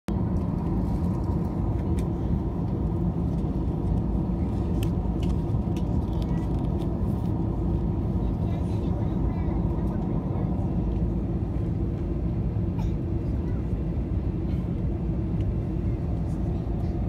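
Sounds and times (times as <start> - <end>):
jet engine rumble in cabin: 0.1 - 17.0.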